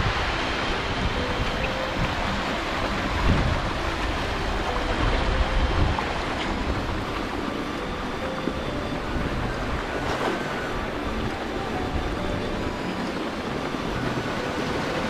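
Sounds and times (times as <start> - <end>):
water rushing over weir: 0.0 - 15.0
wind buffeting microphone: 0.0 - 15.0.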